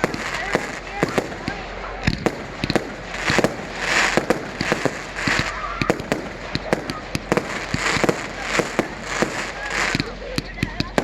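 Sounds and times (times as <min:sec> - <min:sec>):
fireworks bangs and pops: 0:00.0 - 0:11.0
fireworks crackling hiss: 0:00.0 - 0:11.0.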